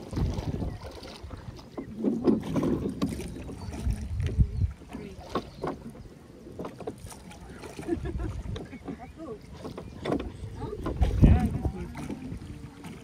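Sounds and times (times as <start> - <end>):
oars splashing through water: 0.0 - 13.0.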